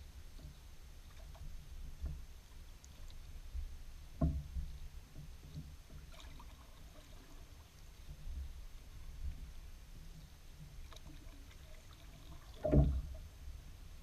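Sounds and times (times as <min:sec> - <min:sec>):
paddle strokes in water: 0:00.0 - 0:13.4
water trickling and dripping: 0:00.3 - 0:09.5, 0:10.1 - 0:13.4.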